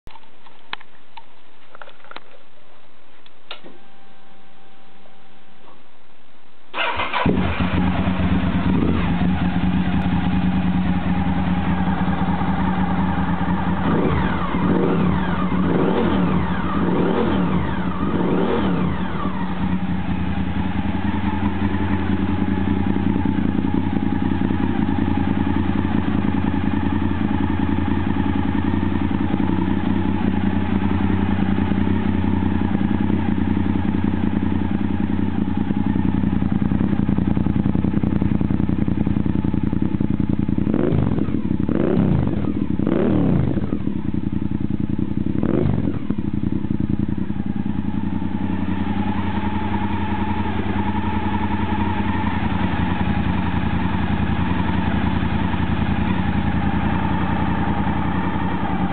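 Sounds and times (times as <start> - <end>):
motorcycle engine idling and revving: 6.8 - 58.9.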